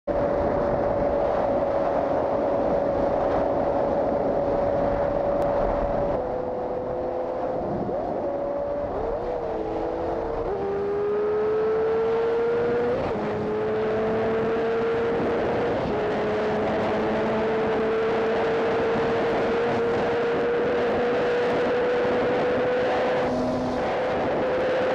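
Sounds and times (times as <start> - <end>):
motorcycle engine revving high: 0.1 - 24.9
wind on microphone: 0.1 - 24.9.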